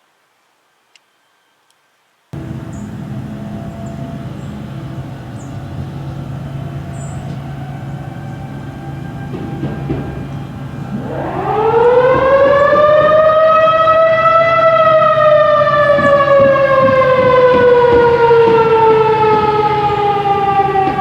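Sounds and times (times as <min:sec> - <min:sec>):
warning siren winding up and down: 0:02.4 - 0:21.0.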